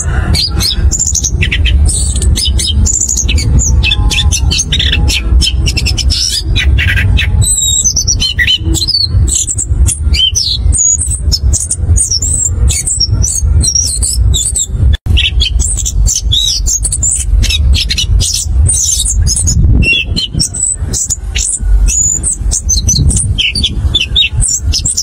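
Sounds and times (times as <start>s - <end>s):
low rumble: 0.0s - 25.0s
thrush singing whistles and trills: 0.0s - 25.0s.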